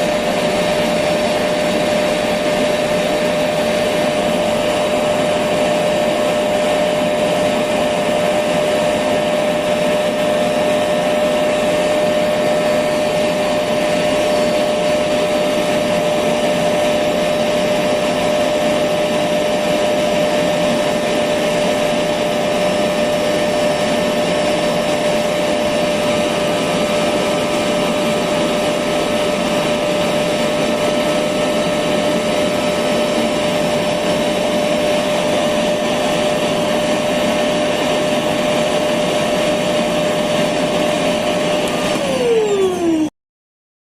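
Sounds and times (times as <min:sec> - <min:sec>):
vacuum cleaner running: 0:00.0 - 0:43.2.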